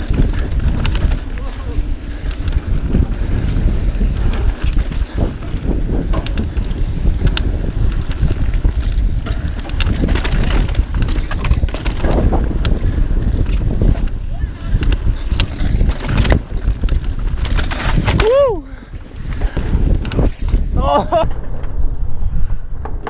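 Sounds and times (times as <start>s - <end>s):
tyres rumbling on dirt: 0.0s - 21.2s
bike rattles and clicks: 0.0s - 21.8s
wind buffeting microphone: 0.0s - 23.0s.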